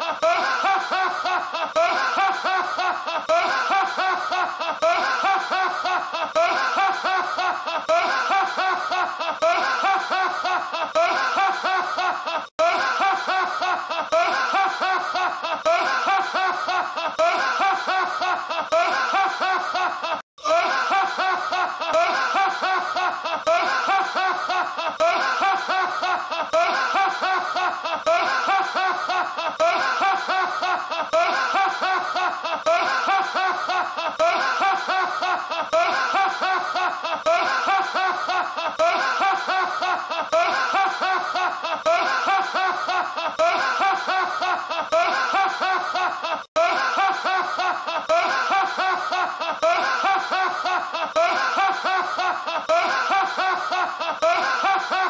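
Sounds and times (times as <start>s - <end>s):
man laughing heartily: 0.0s - 55.0s.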